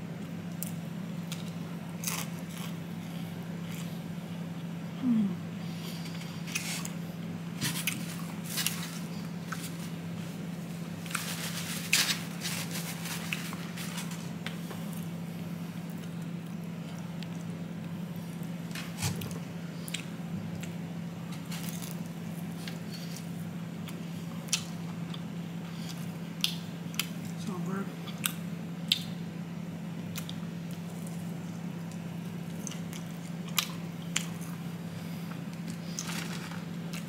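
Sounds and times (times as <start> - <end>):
steady low hum: 0.0 - 37.0
person chewing fried chicken: 0.5 - 4.8, 7.8 - 27.4, 28.0 - 29.2, 30.0 - 37.0.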